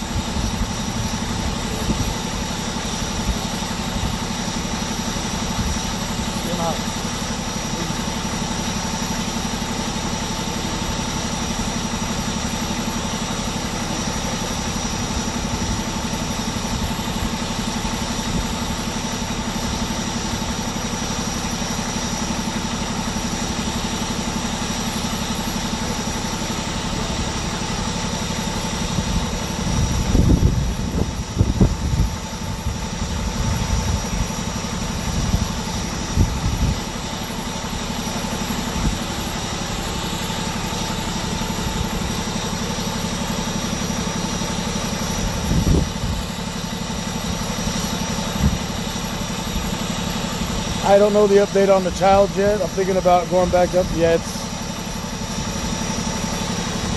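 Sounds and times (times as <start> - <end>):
vehicle engine idling: 0.0 - 56.9.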